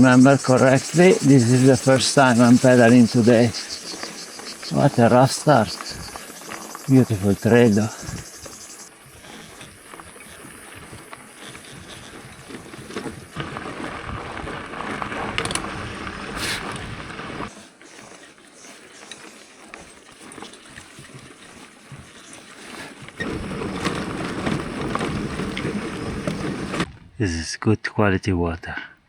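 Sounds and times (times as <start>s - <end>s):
bicycle rattling: 0.0s - 26.9s
bicycle tyres on dirt and stones: 0.0s - 27.1s.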